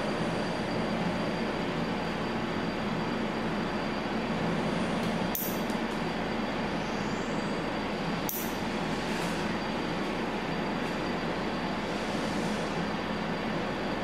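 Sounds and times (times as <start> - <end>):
background hiss and hum: 0.0 - 14.0.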